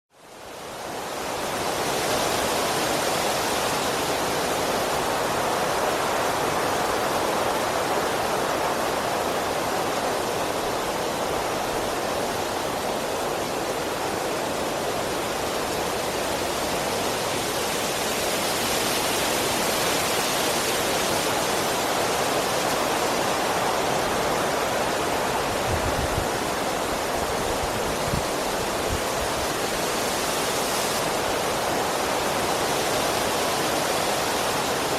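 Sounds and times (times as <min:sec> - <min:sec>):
strong wind through trees: 0:00.1 - 0:34.9.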